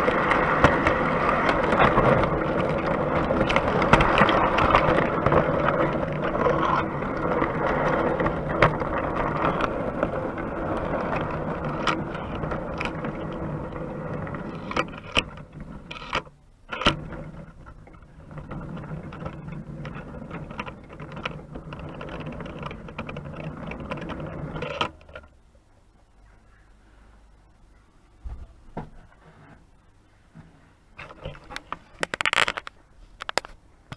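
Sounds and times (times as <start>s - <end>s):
model train wheels rattling: 0.0s - 25.4s, 31.0s - 33.6s.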